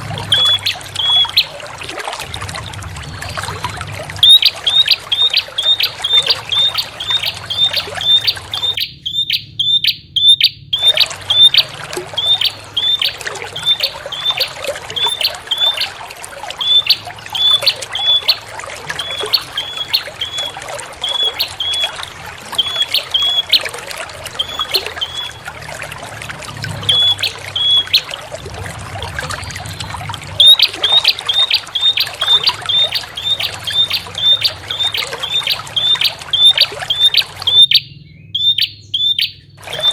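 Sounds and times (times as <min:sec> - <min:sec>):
running water trickling: 0:00.0 - 0:39.9
bird chirping: 0:00.2 - 0:01.6, 0:04.2 - 0:16.0, 0:16.6 - 0:23.7, 0:24.3 - 0:25.4, 0:26.8 - 0:28.1, 0:29.6 - 0:39.9.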